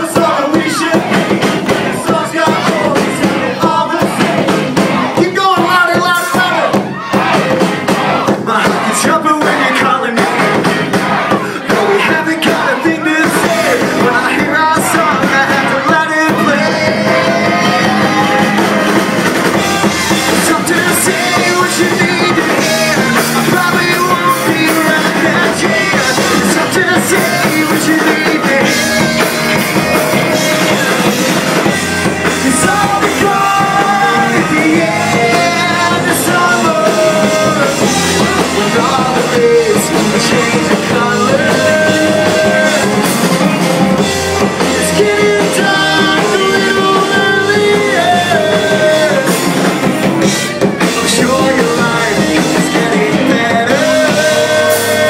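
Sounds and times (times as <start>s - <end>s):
drum kit: 0.0s - 55.0s
man singing: 0.0s - 55.0s
electric guitar: 10.0s - 55.0s.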